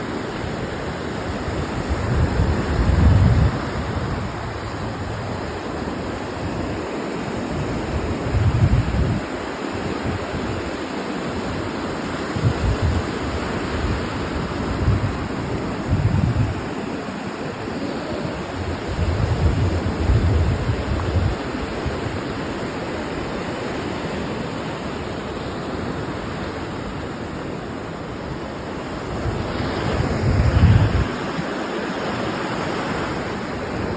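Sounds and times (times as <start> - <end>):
ocean surf on a beach: 0.0 - 33.9.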